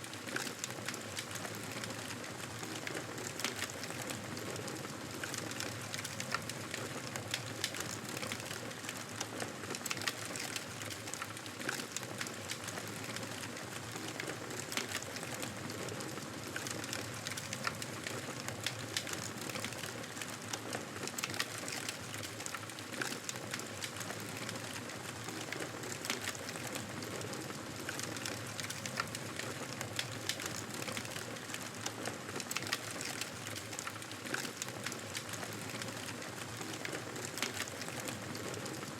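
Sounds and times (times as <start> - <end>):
campfire hissing and crackling: 0.0 - 38.9.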